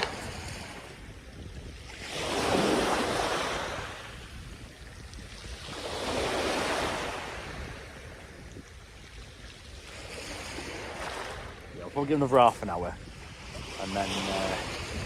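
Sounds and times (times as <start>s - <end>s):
waves breaking on sand: 0.0s - 15.0s.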